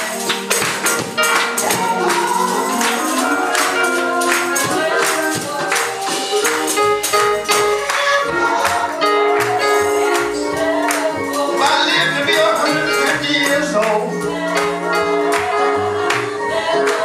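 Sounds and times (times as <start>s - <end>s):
sharp percussion strokes: 0.0s - 15.4s
gospel music with voices: 0.0s - 17.0s.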